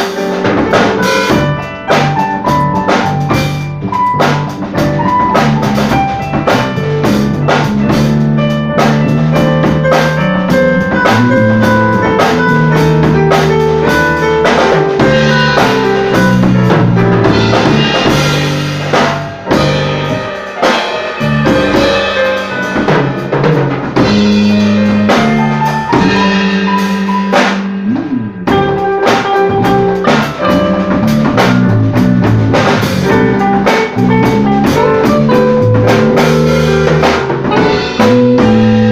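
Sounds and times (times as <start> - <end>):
band playing: 0.0 - 38.9
drum kit steady beat: 0.0 - 38.9.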